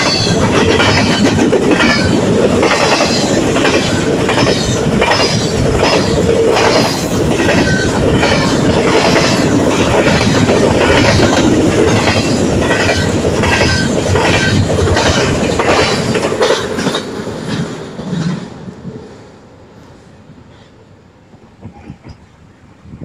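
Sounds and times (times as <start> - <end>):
clickety-clack over rail joints: 0.0 - 19.0, 21.3 - 22.4
train wheels rumbling on rail: 0.0 - 23.0.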